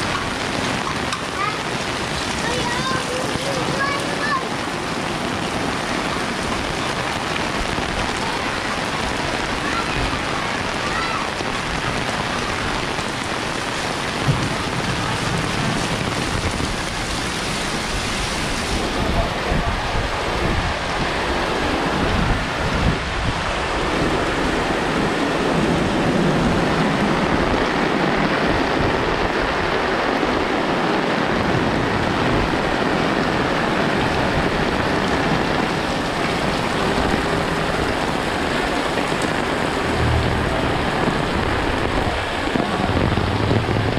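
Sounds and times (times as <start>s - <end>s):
heavy rain on street: 0.0s - 43.9s.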